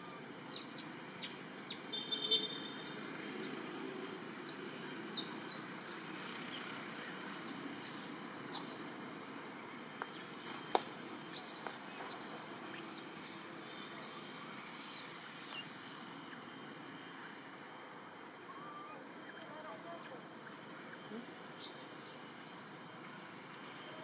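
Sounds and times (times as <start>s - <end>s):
steady forest hiss: 0.0s - 23.9s.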